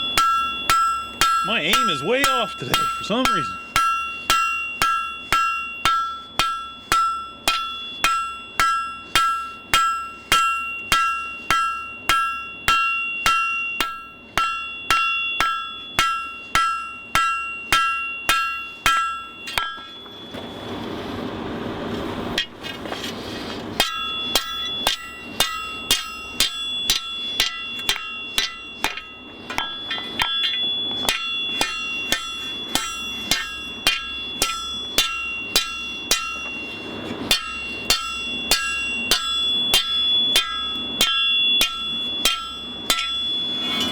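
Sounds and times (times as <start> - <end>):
hammer striking steel on anvil: 0.0 - 20.4, 23.8 - 43.9.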